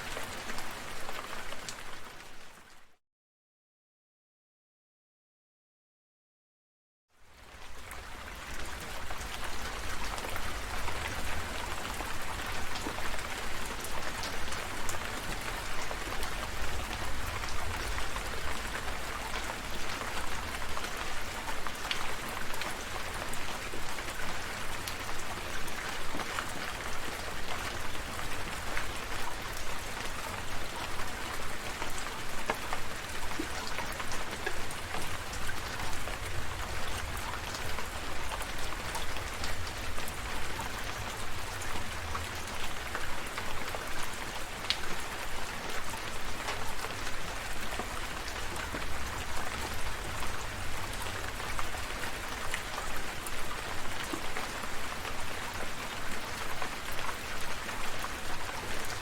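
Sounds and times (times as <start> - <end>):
rain falling: 0.0 - 2.8, 7.3 - 59.0.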